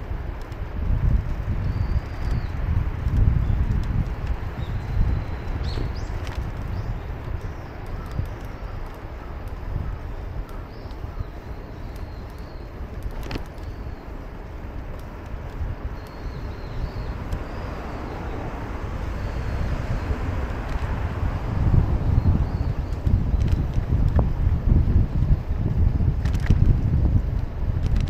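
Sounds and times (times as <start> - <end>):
low gusty rumble: 0.0 - 28.0
traffic: 0.0 - 28.0.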